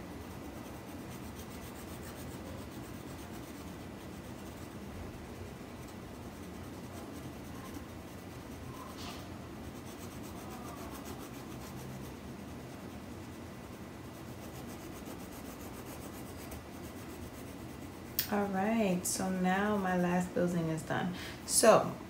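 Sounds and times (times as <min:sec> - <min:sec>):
pencil scratching on paper: 0:00.1 - 0:18.2.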